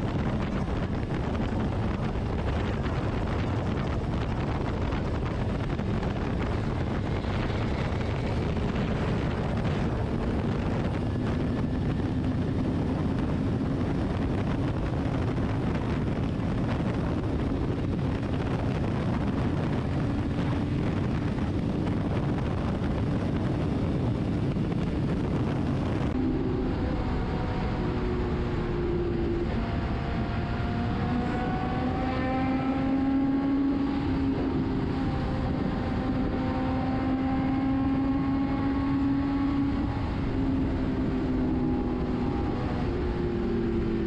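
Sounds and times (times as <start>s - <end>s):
motorcycle engine cruising: 0.0s - 44.0s
wind rushing over microphone: 0.0s - 44.0s.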